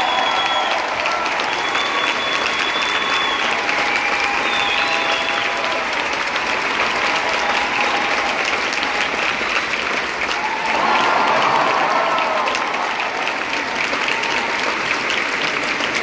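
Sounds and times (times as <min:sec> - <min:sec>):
large crowd applauding: 0:00.0 - 0:16.0.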